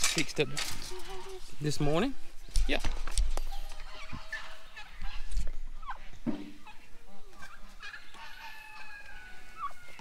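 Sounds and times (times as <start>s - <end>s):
turkeys calling: 0.0s - 10.0s.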